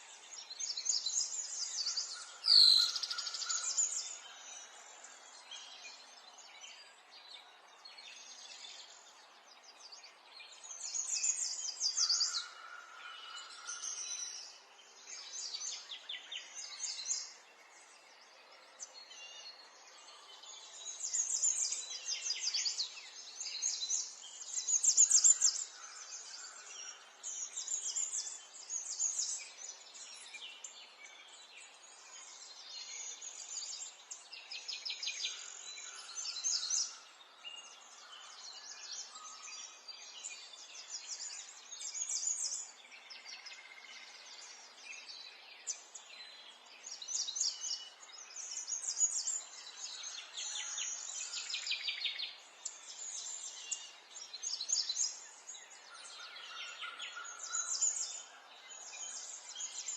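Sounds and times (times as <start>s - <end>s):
soft outdoor hiss: 0.0s - 59.9s
songbirds chirping and singing: 0.0s - 59.9s.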